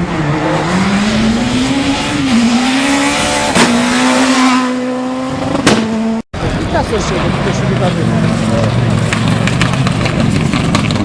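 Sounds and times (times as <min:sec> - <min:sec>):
rally car engine revving: 0:00.0 - 0:06.2, 0:07.1 - 0:11.0.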